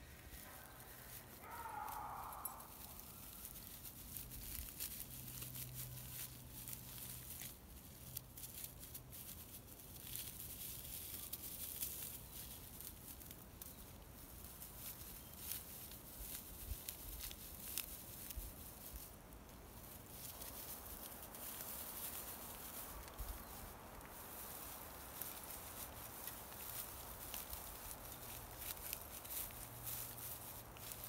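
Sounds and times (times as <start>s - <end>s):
footsteps through twigs and leaves: 0.0s - 31.0s.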